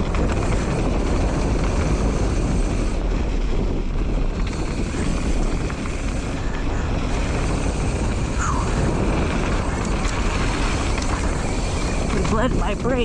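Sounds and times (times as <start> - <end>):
bike tyres on wet dirt: 0.0 - 13.0
wind buffeting microphone: 0.0 - 13.0.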